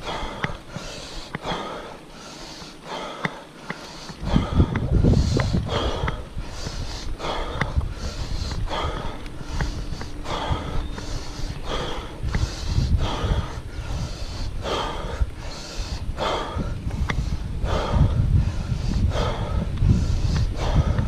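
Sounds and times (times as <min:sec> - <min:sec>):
cyclist panting hard: 0:00.0 - 0:21.0
low rumble: 0:04.1 - 0:21.0.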